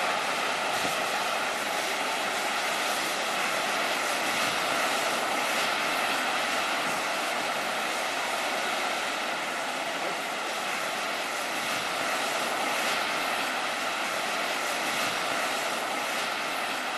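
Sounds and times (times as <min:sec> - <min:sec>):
fumarole venting steam hiss: 0:00.0 - 0:16.9.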